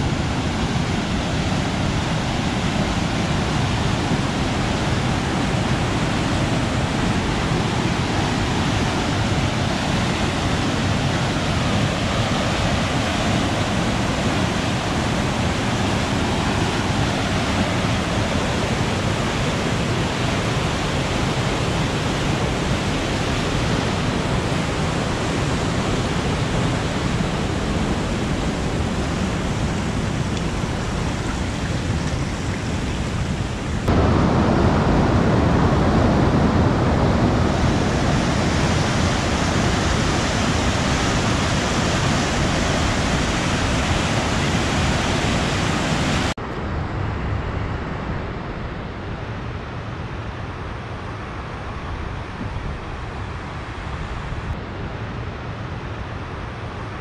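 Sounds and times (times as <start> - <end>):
waterfall rushing: 0.0 - 46.4.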